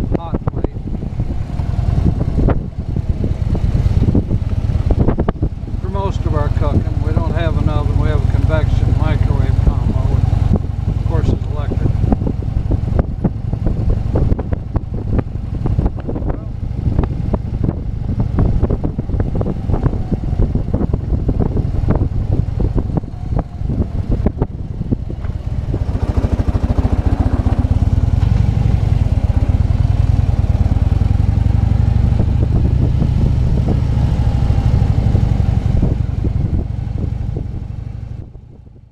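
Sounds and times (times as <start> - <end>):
motorcycle engine rumble: 0.0 - 38.9
wind buffeting microphone: 0.0 - 38.9.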